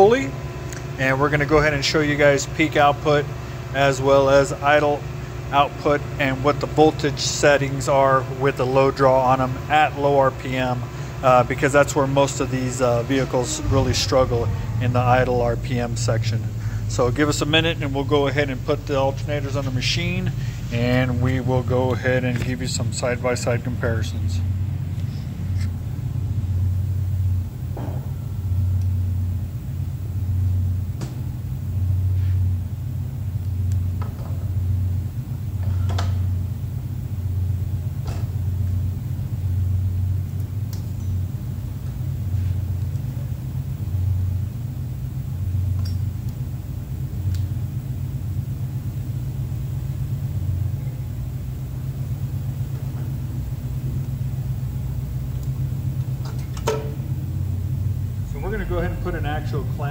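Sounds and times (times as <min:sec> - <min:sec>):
low throbbing machine hum: 0:00.0 - 0:59.9.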